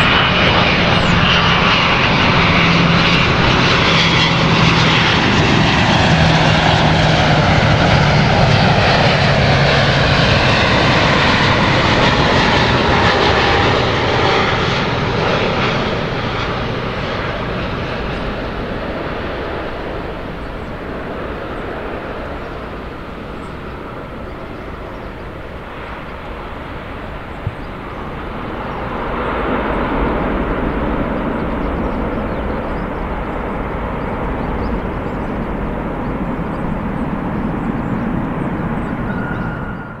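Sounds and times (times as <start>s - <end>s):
jet engines rushing: 0.0s - 40.0s.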